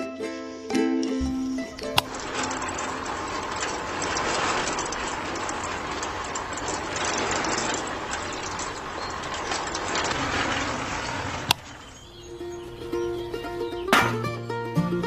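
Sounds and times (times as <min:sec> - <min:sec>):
small electric motor rattling: 0:01.3 - 0:13.7.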